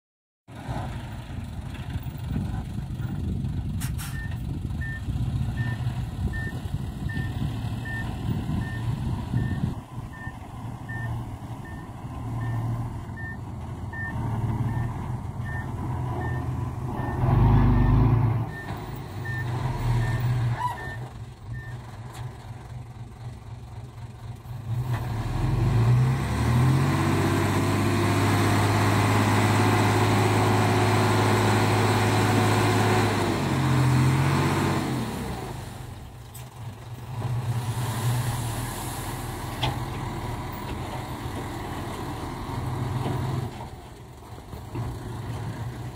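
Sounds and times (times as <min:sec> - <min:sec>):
diesel truck engine running: 0:00.6 - 0:45.9.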